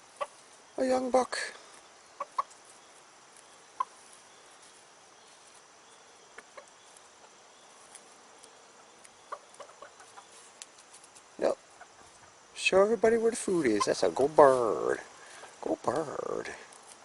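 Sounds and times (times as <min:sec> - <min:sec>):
chicks clucking: 0:00.0 - 0:00.5, 0:01.1 - 0:12.5, 0:13.2 - 0:16.4
insects: 0:00.0 - 0:17.0.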